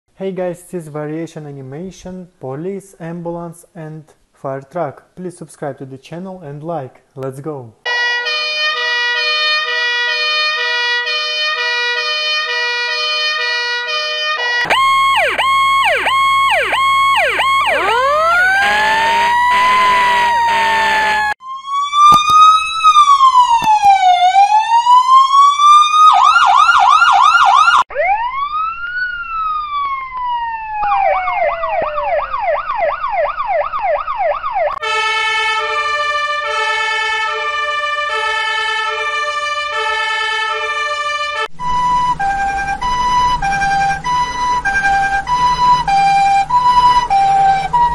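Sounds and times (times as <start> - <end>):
emergency vehicle siren: 7.9 - 47.9.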